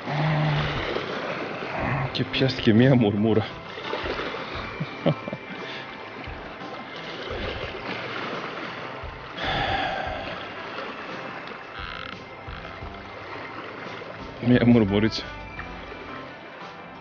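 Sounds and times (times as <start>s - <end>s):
sea waves splashing against rocks: 0.0s - 17.0s.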